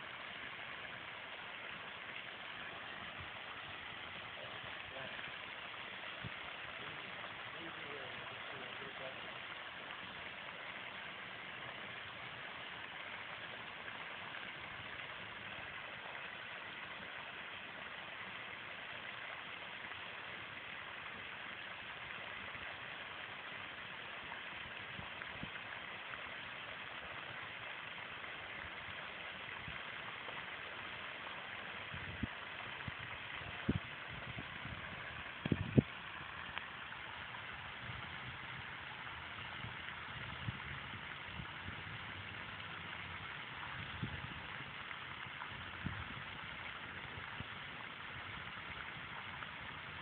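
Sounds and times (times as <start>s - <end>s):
outdoor background hiss: 0.0s - 50.0s.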